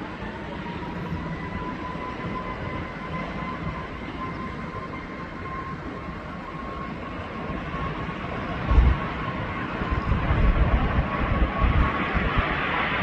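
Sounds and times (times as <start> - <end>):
high engine whine: 0.0 - 13.0
jet engines rushing: 0.0 - 13.0.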